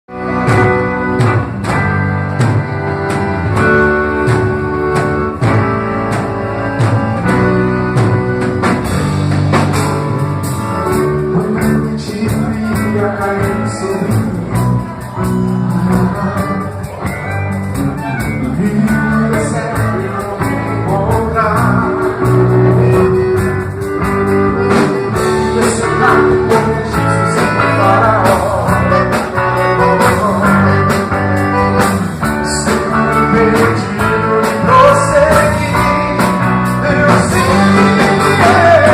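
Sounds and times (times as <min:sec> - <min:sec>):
free-reed instrument playing chords: 0:00.1 - 0:38.9.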